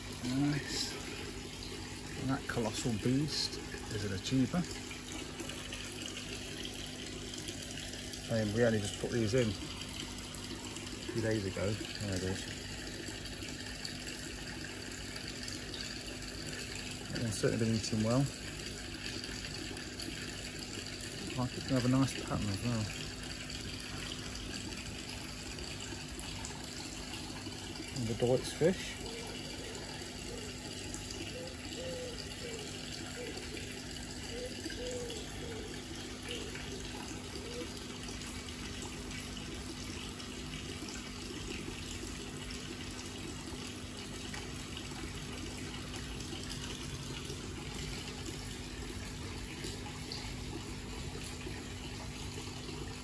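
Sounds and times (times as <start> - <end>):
water rushing into pond: 0.0 - 53.0.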